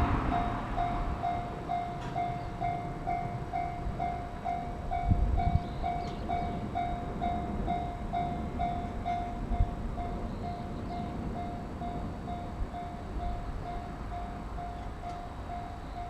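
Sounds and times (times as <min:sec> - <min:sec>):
level-crossing alarm bell ringing: 0:00.4 - 0:16.0.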